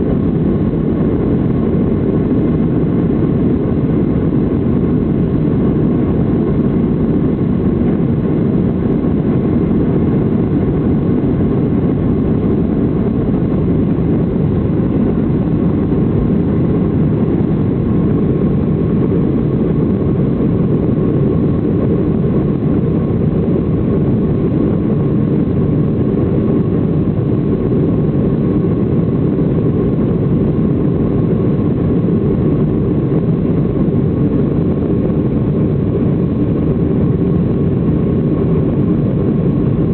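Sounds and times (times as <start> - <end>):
faint steady whine: 0.0 - 39.9
jet engine rumble in cabin: 0.0 - 39.9.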